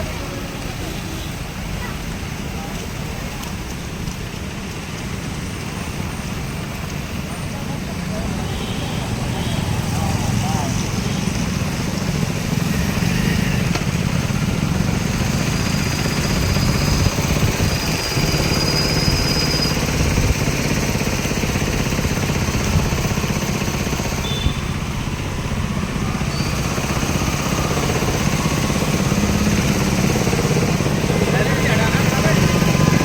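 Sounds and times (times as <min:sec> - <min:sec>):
motorcycle engines running: 0:00.0 - 0:33.0
road traffic rumble: 0:00.0 - 0:33.0.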